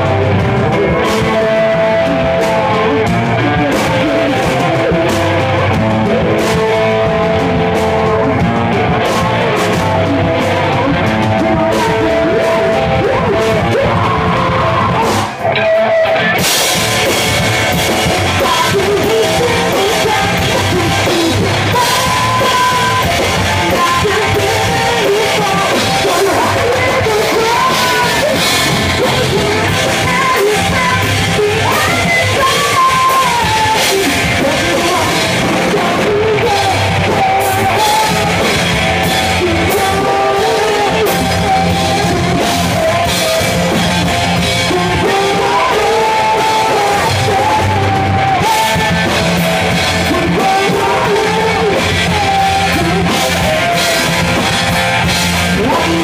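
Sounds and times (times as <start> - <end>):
live hard rock band: 0.0 - 56.0
woman singing: 0.6 - 56.0.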